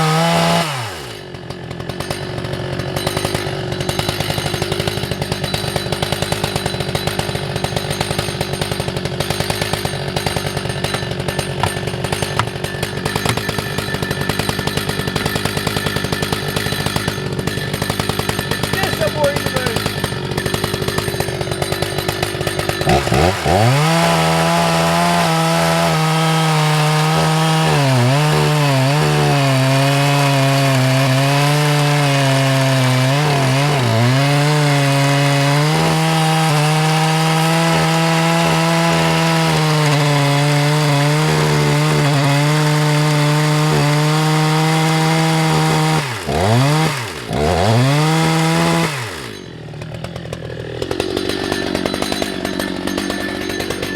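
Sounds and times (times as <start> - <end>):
chainsaw cutting a log: 0.0 - 53.9.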